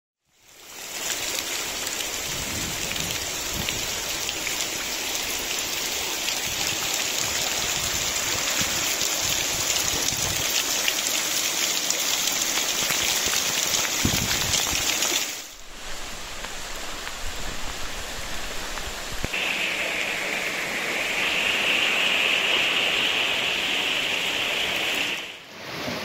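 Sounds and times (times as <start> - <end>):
heavy rain falling: 0.4 - 26.0.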